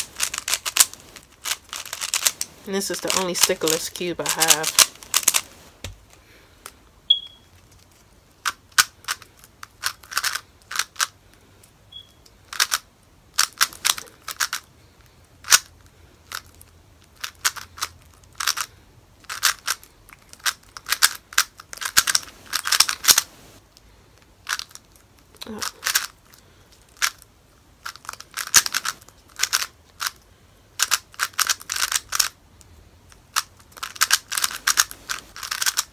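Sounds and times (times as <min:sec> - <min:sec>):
plastic puzzle cube layers clacking: 0:00.0 - 0:06.1, 0:07.6 - 0:11.7, 0:12.4 - 0:23.3, 0:24.4 - 0:30.2, 0:30.8 - 0:32.4, 0:33.1 - 0:35.9.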